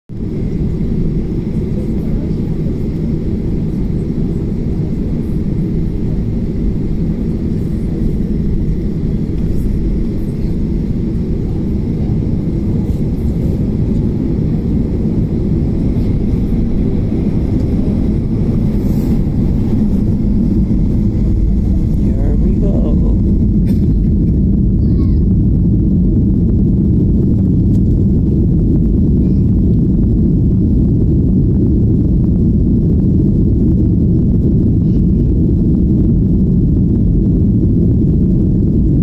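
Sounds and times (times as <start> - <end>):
jet engines during takeoff: 0.1 - 39.0.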